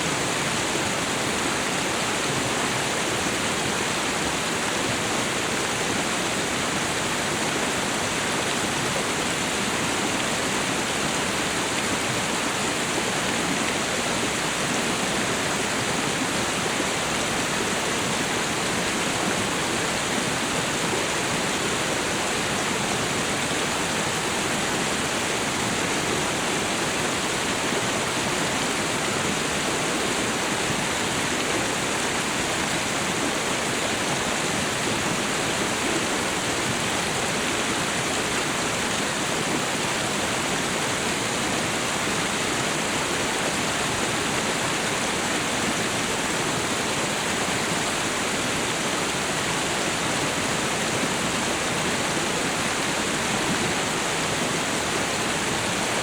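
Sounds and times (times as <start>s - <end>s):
waterfall and river rushing: 0.0s - 56.0s.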